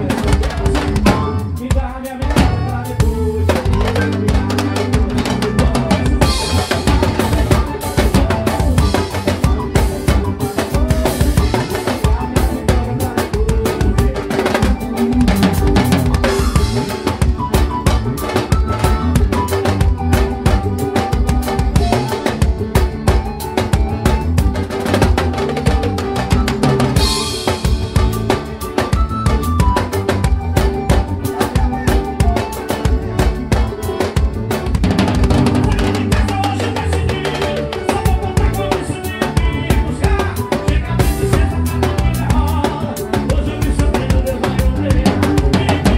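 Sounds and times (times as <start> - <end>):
accordion chords: 0.0 - 45.9
drum kit: 0.0 - 45.9
electric bass: 0.0 - 45.9
keyboard: 0.0 - 45.9.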